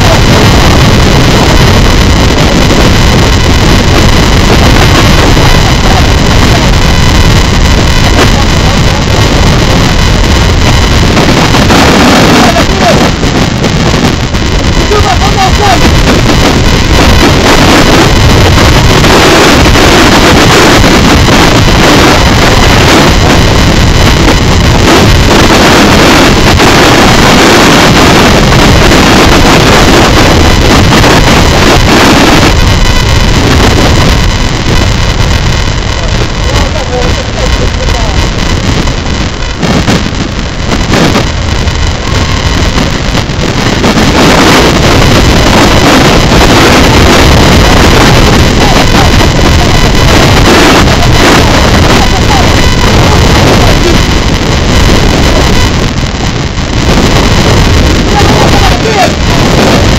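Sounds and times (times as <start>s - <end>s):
water rushing along a hull: 0.0s - 59.9s
wind buffeting the microphone: 0.0s - 59.9s.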